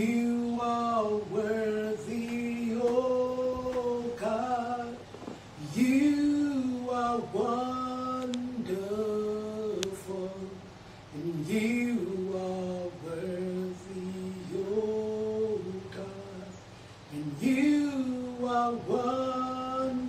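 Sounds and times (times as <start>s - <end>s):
woman singing slow song: 0.0s - 20.0s.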